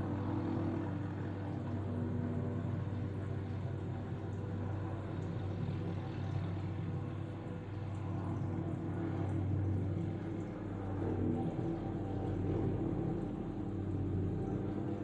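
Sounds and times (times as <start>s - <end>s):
helicopter hovering: 0.0s - 15.0s.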